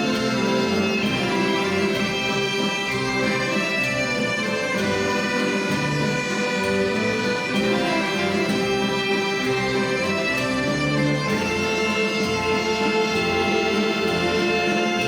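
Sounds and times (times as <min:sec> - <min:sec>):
instrumental waltz played live: 0:00.0 - 0:15.0.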